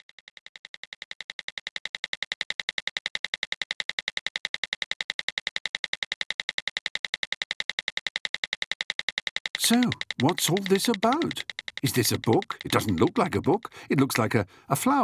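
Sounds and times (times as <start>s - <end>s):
rapid even clicking: 0.0s - 15.0s.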